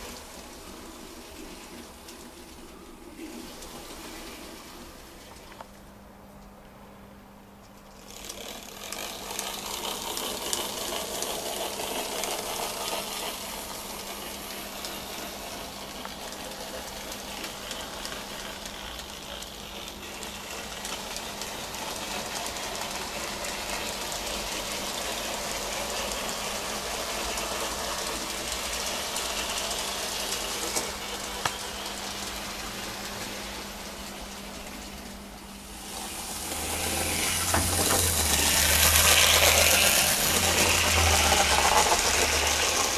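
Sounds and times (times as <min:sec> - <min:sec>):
model train running on track: 0:00.0 - 0:05.7, 0:07.9 - 0:42.9.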